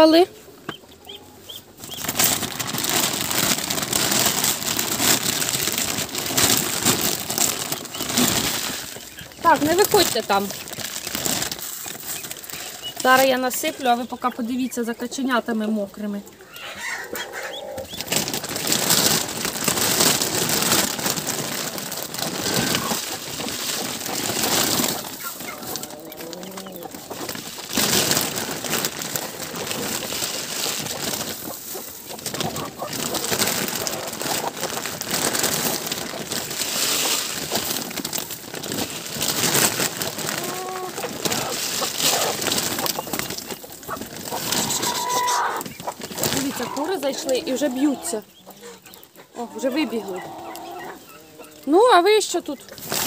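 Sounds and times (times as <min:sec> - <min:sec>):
poultry clucking: 0:00.0 - 0:38.0, 0:39.7 - 0:53.0.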